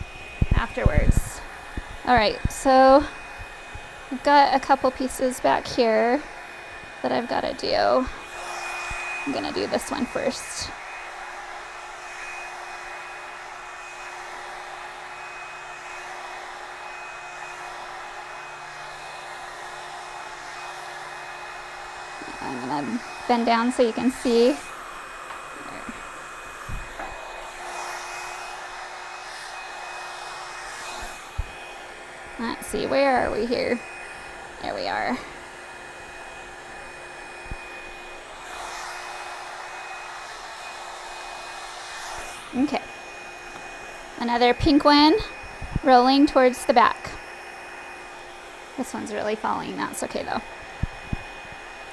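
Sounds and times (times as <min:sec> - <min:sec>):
hairdryer running: 0:00.0 - 0:51.9.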